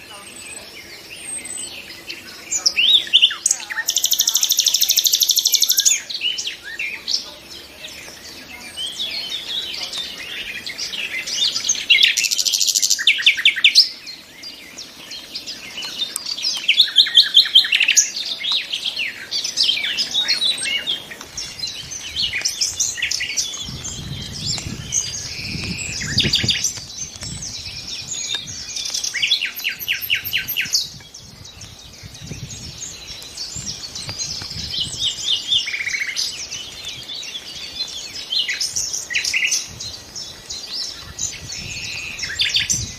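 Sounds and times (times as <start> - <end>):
nightingale singing: 0.0 - 42.9.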